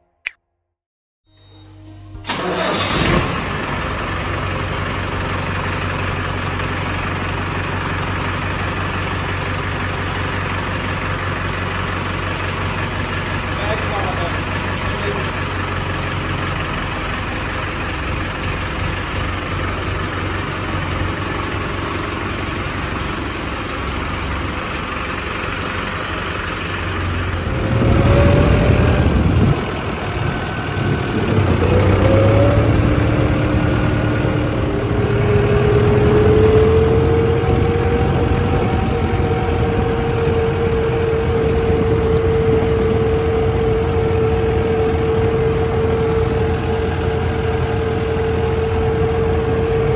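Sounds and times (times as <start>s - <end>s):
tractor diesel engine: 1.4s - 49.9s.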